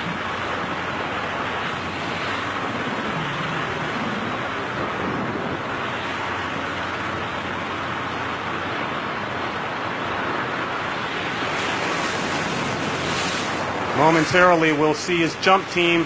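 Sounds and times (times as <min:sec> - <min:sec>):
freefall wind rushing: 0:00.0 - 0:16.0.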